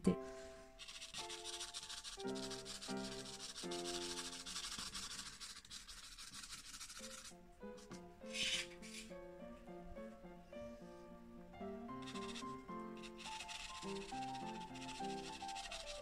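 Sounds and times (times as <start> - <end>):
soft background music: 0.0 - 5.1, 6.8 - 16.0
pastel pencil scratchy strokes: 0.4 - 9.2, 11.6 - 16.0.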